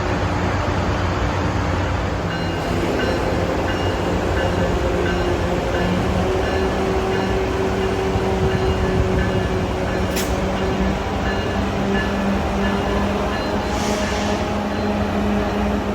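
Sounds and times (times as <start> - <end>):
train engine hum: 0.0 - 15.9.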